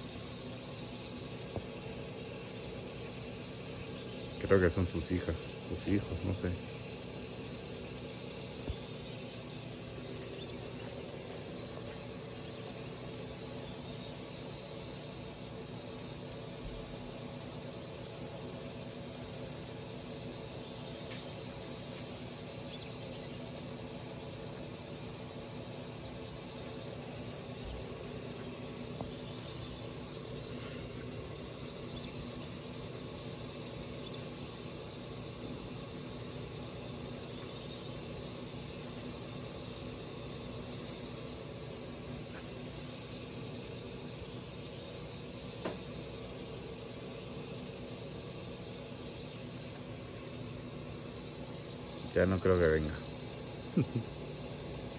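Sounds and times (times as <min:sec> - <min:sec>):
machinery hum: 0:00.0 - 0:54.9
outdoor background noise: 0:00.0 - 0:54.9.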